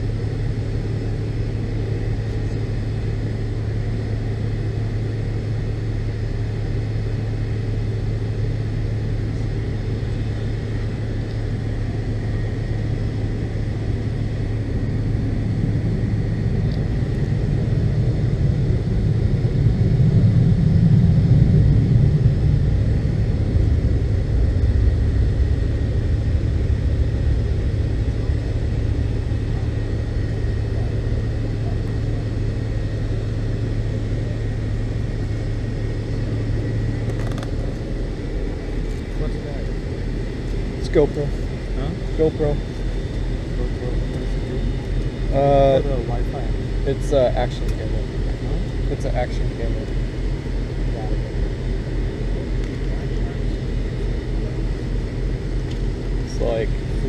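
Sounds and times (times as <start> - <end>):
airliner cabin drone: 0.0 - 57.0
thin steady whine: 0.0 - 57.0.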